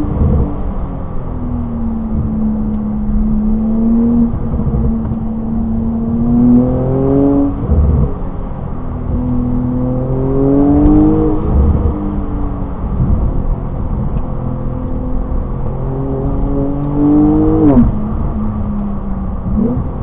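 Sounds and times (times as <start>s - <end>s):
car engine accelerating: 0.0s - 20.0s
tyre and road noise: 0.0s - 20.0s.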